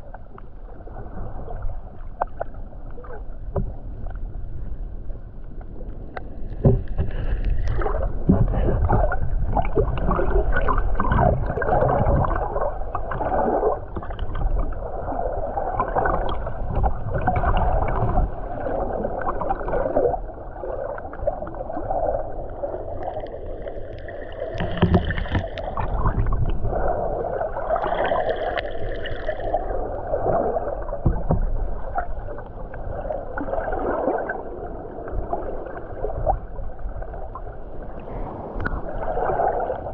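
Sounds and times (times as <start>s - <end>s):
underwater churning and gurgling: 0.0s - 39.9s.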